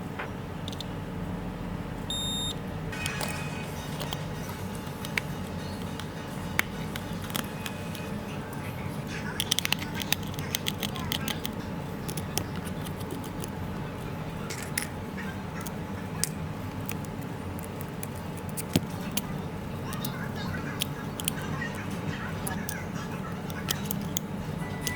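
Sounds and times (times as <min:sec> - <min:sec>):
low background hum: 0:00.0 - 0:24.9.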